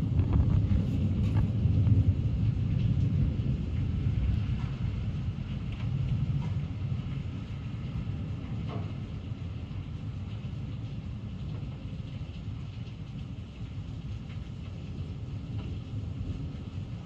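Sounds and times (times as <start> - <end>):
low rolling thunder: 0.0 - 17.0.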